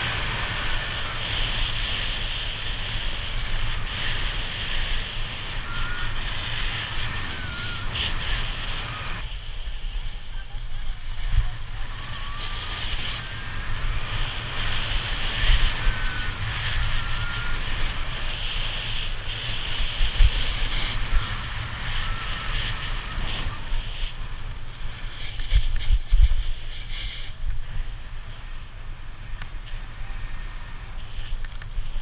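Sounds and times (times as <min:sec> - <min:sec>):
snowboard scraping on snow: 0:00.0 - 0:32.0
wind rumbling on microphone: 0:00.0 - 0:32.0.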